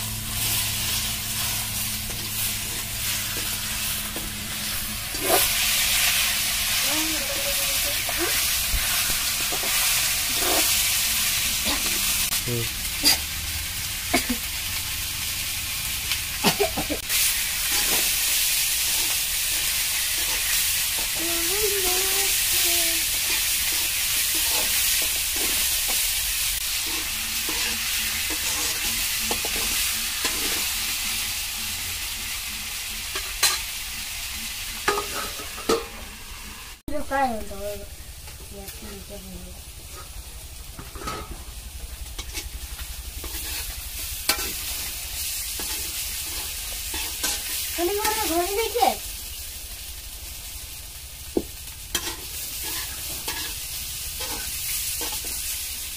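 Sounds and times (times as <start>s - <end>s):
curry sizzling in a pan: 0.0s - 55.9s.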